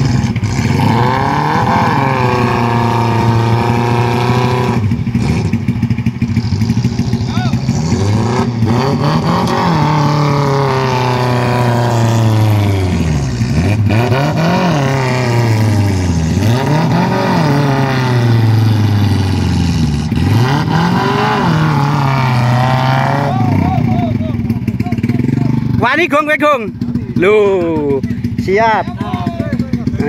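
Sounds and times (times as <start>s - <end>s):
off-road engine revving: 0.0s - 30.0s.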